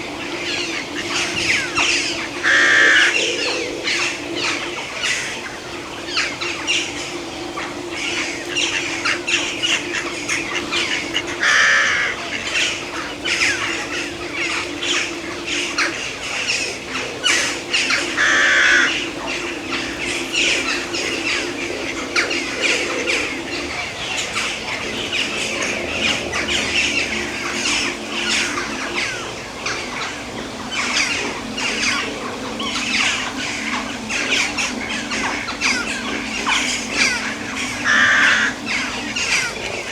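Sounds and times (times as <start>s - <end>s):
birds squawking in chorus: 0.0s - 39.9s
low steady hum: 0.0s - 39.9s.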